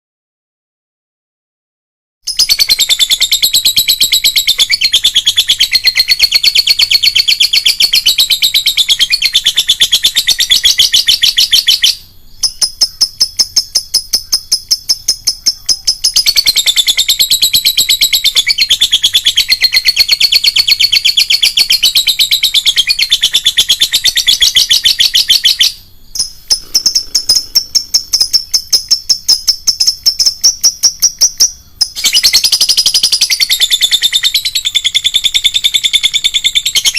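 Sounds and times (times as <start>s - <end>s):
lovebird chattering song: 2.3s - 36.9s.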